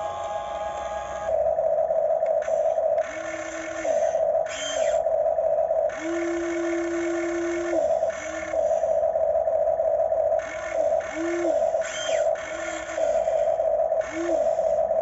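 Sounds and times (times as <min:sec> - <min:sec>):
electric motors whining: 0:00.0 - 0:09.2, 0:10.3 - 0:15.0
steady hum: 0:00.0 - 0:15.0.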